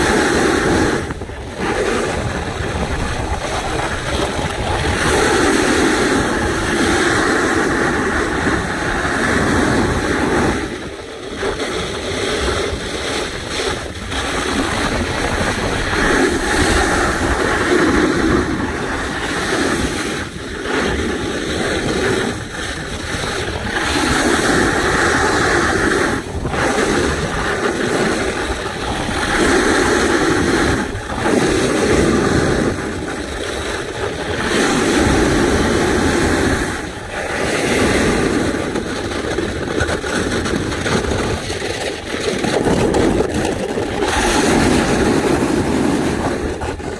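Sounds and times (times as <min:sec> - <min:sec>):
snowboard scraping on snow: 0:00.0 - 0:46.9
wind over microphone: 0:00.0 - 0:46.9.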